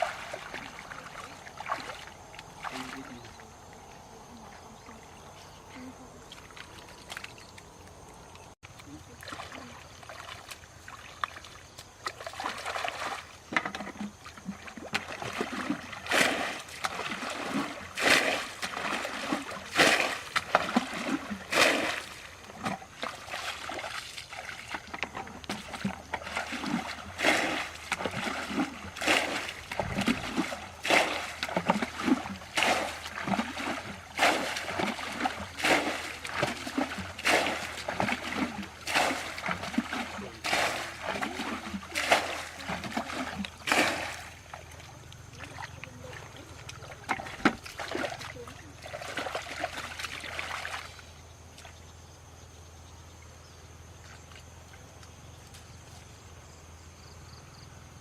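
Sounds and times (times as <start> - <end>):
water trickling: 0.0 - 51.1
water splashing: 0.0 - 51.7.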